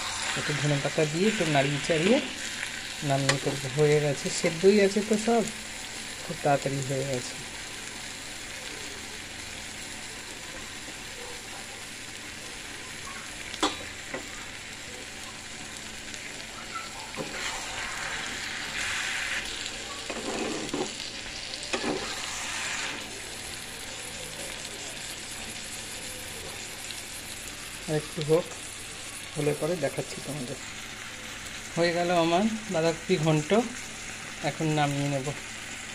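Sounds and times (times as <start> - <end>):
food sizzling in a pan: 0.0 - 35.9.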